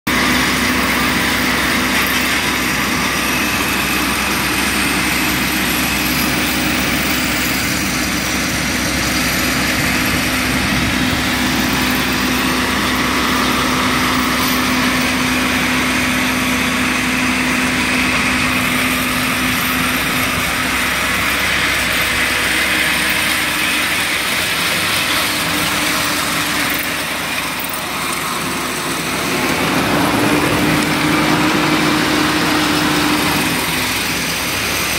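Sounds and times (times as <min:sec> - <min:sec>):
engine humming: 0:00.1 - 0:34.9.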